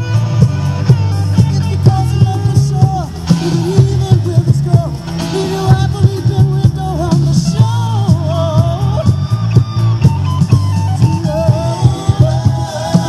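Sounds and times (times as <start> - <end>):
song on radio with singing: 0.0 - 13.0.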